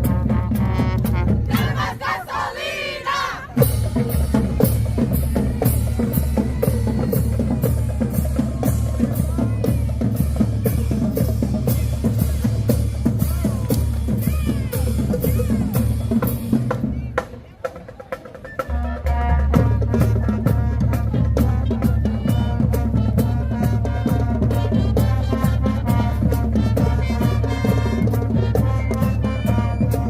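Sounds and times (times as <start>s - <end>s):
marching band playing: 0.0s - 30.0s.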